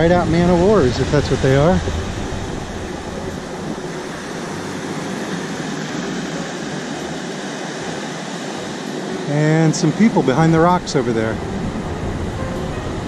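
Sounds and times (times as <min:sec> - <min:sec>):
waves washing up beach: 0:00.0 - 0:13.0.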